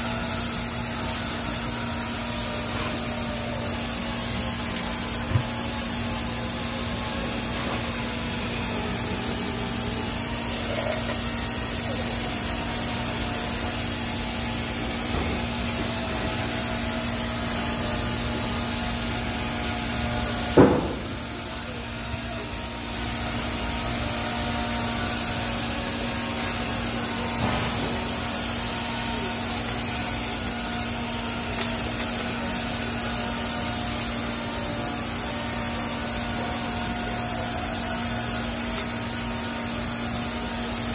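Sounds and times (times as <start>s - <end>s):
arc welding buzzing hiss: 0.0s - 40.9s
constant hum: 0.0s - 40.9s.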